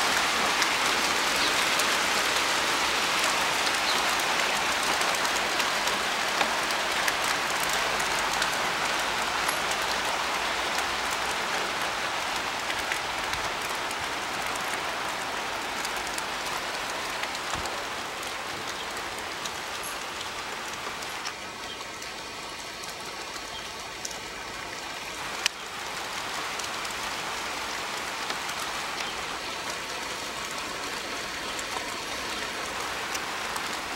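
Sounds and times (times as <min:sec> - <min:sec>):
rain and hail pattering: 0:00.0 - 0:33.9.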